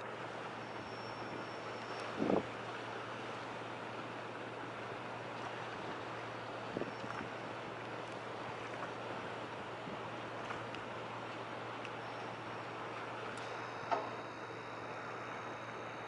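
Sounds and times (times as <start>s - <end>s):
low engine hum: 0.0s - 16.0s
water noise: 0.0s - 16.0s
wind: 0.0s - 16.0s.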